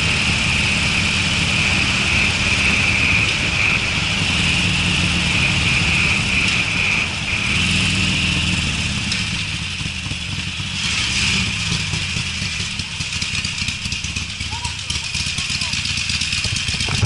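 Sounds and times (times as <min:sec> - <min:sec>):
motorcycle engine exhaust note: 0:00.0 - 0:10.8, 0:11.4 - 0:17.0
wind and road noise: 0:00.0 - 0:17.0.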